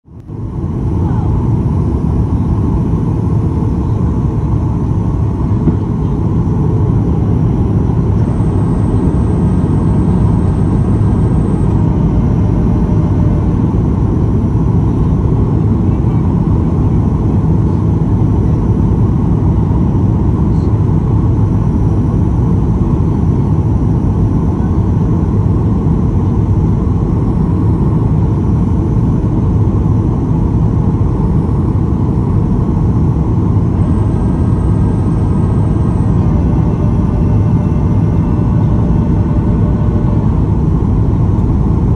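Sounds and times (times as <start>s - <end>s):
airplane cabin roar: 0.1s - 41.9s.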